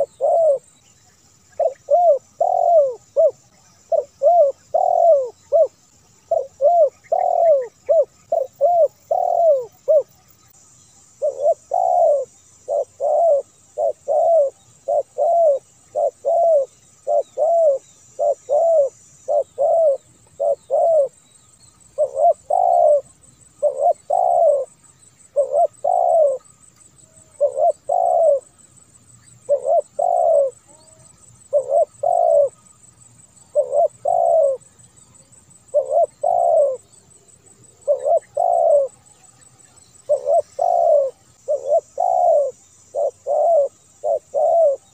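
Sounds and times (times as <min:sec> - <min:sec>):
dove cooing: 0:00.0 - 0:00.7, 0:01.5 - 0:10.3, 0:11.2 - 0:21.2, 0:21.9 - 0:28.6, 0:29.4 - 0:32.8, 0:33.4 - 0:44.9.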